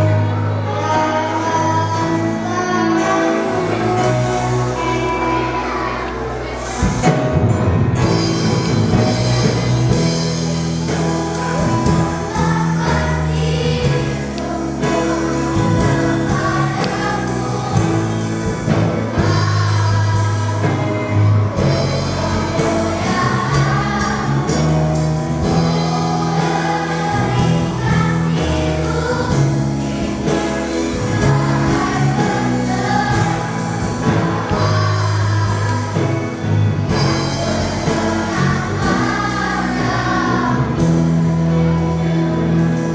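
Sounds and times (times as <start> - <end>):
children's choir singing a hymn: 0.0 - 42.9
instrumental accompaniment: 0.0 - 42.9.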